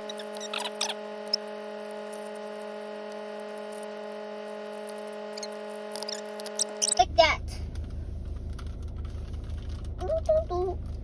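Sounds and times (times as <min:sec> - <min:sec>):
droning hum of held tones: 0:00.0 - 0:11.0.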